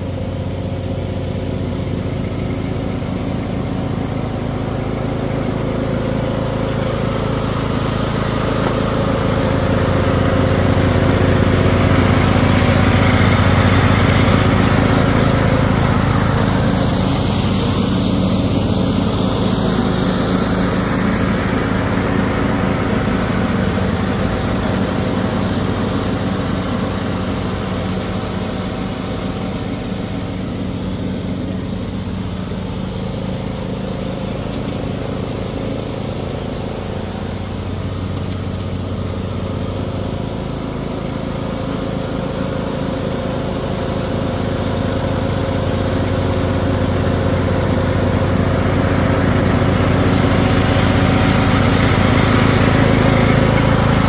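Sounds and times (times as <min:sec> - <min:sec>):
riding mower engine hum: 0:00.0 - 0:54.0.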